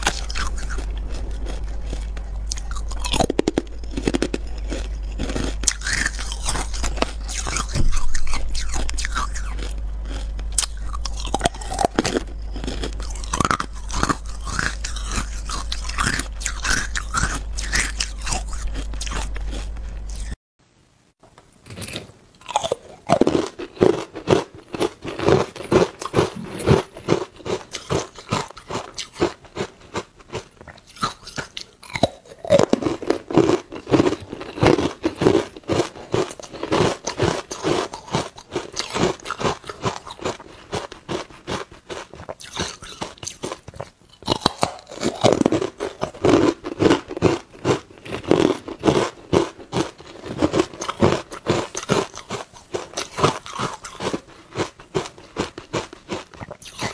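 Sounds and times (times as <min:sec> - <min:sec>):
ice cubes being crunched: 0:00.0 - 0:20.3, 0:21.7 - 0:56.9.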